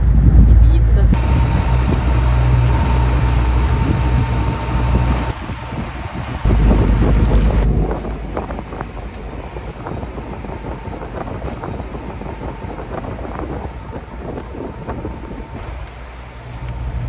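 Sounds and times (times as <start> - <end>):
outboard engine running: 0.0 - 17.0
wind buffeting microphone: 0.0 - 17.0
water rushing past hull: 1.1 - 17.0.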